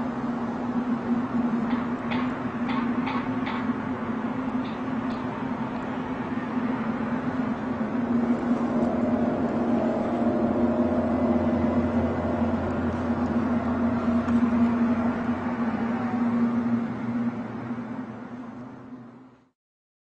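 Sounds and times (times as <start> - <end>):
loud droning hum: 0.0 - 19.6.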